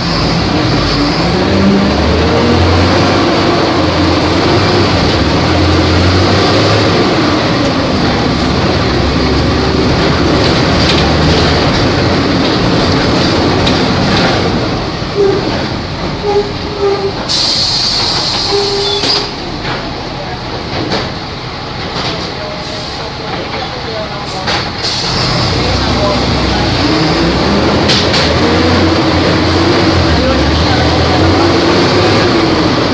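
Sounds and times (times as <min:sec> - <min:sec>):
bus engine: 0:00.0 - 0:32.9
road and cabin noise: 0:00.0 - 0:32.9.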